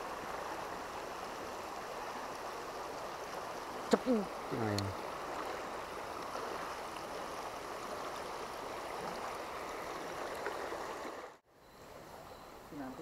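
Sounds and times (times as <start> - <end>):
water rushing over rocks: 0.0 - 11.4.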